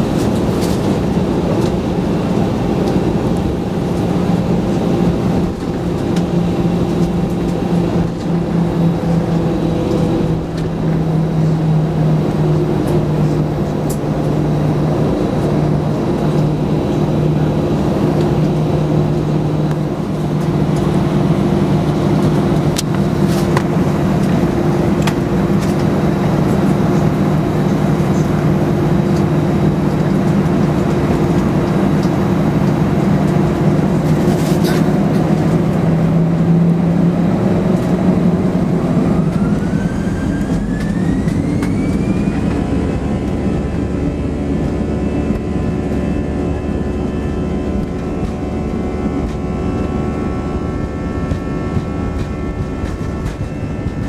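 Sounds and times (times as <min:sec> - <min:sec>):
jet engines humming: 0:00.0 - 0:54.0
whine rising in pitch: 0:00.0 - 0:54.0.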